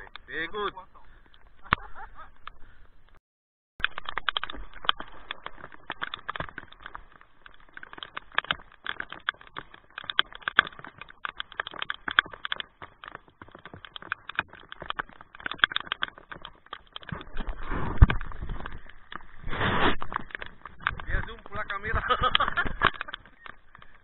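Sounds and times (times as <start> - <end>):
rain pattering on plastic: 3.8 - 24.0.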